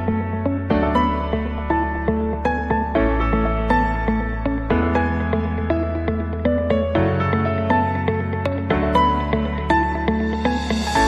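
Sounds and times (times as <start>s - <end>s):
gentle new-age music: 0.0s - 11.0s.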